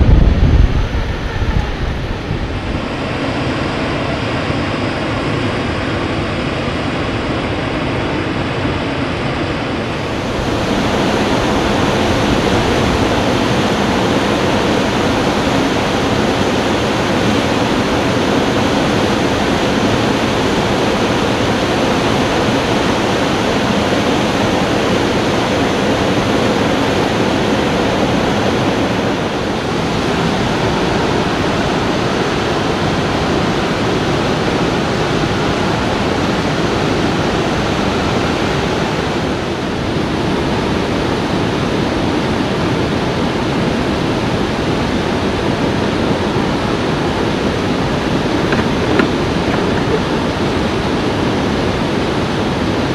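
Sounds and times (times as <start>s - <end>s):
river rapids rushing: 0.6s - 41.4s, 43.6s - 52.9s.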